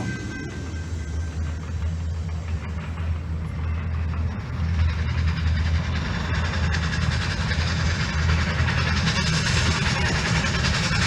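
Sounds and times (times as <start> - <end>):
train chugging over loudspeakers: 0.0 - 11.0.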